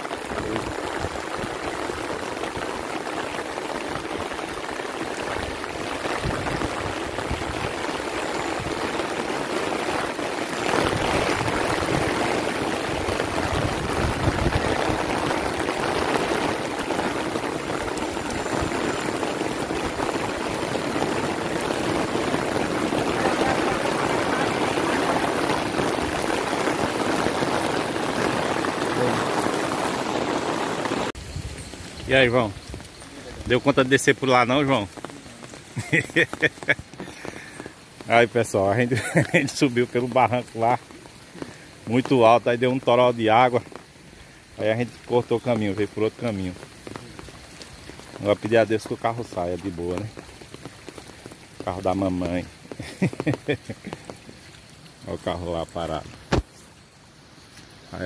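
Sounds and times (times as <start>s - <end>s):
heavy rain on an umbrella: 0.0s - 58.0s.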